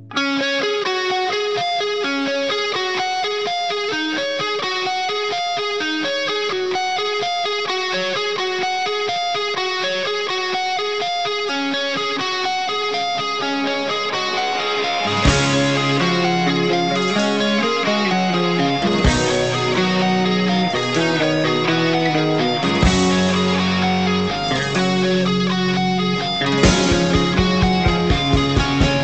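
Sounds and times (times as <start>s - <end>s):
fast guitar run: 0.0s - 29.0s.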